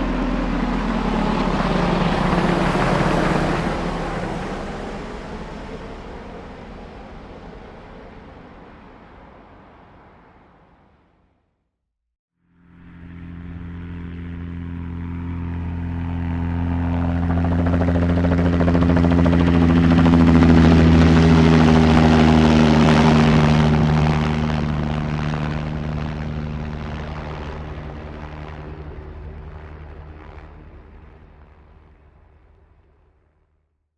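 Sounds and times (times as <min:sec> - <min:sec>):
helicopter flying past: 0:00.0 - 0:11.1, 0:12.4 - 0:33.2.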